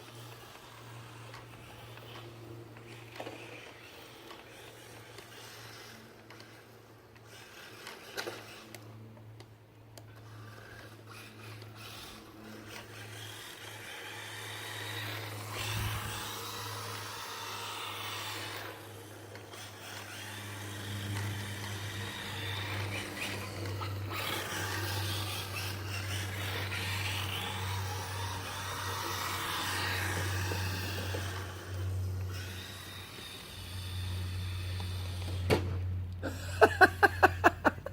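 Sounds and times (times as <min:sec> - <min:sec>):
small electric motor revving: 0:00.0 - 0:09.1, 0:10.0 - 0:37.9
steady low hum: 0:00.0 - 0:37.9.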